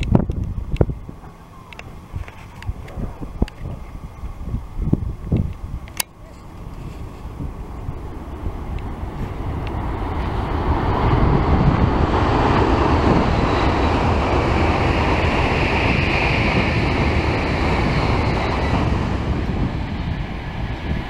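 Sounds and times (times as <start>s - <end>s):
high-speed train passing: 0.0s - 21.0s
wind buffeting microphone: 0.0s - 21.0s.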